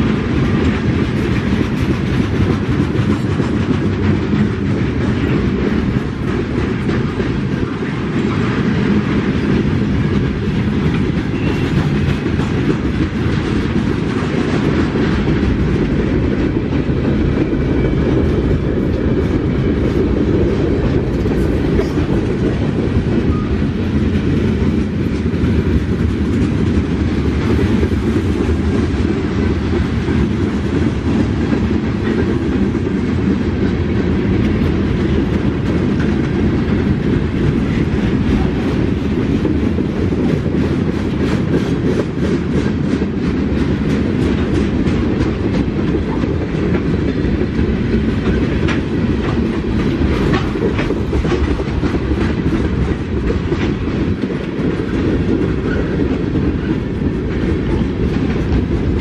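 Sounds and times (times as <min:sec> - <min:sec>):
freight train wheels rumbling: 0:00.0 - 0:59.0
wheels clicking over rail joints: 0:00.0 - 0:59.0.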